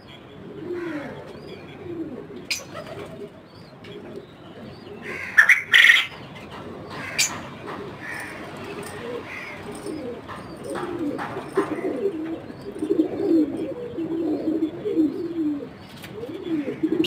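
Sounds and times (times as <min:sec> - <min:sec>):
birds low calls: 0:00.0 - 0:17.0.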